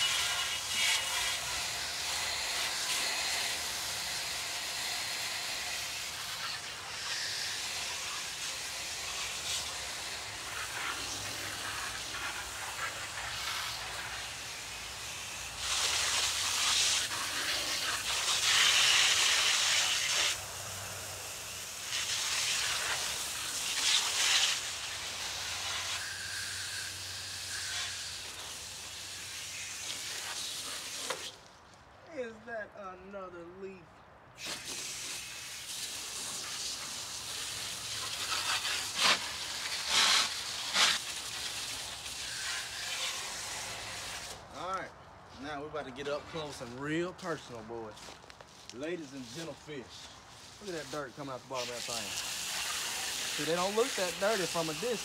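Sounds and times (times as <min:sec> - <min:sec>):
hose nozzle spraying water: 0:00.0 - 0:31.5, 0:34.4 - 0:44.5, 0:50.4 - 0:55.0.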